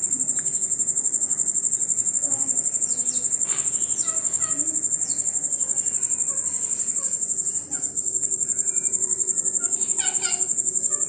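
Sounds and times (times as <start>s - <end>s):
parakeets chattering and whistling: 0.0s - 11.0s.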